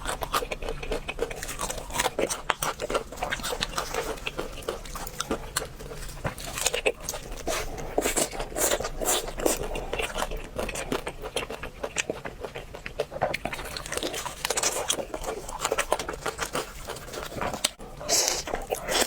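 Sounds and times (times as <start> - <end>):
crunching crispy food: 0.0 - 19.0.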